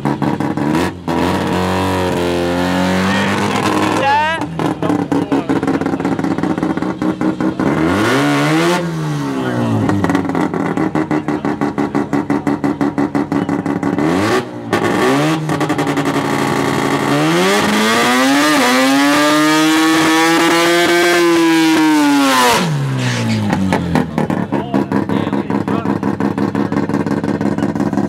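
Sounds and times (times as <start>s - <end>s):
rotary engine idling and revving: 0.0s - 28.0s.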